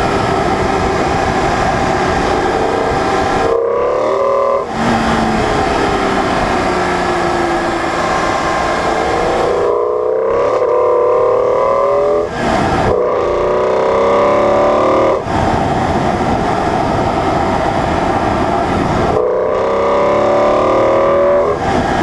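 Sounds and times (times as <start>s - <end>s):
car engine accelerating hard: 0.0s - 22.0s
road and wind noise: 0.0s - 22.0s.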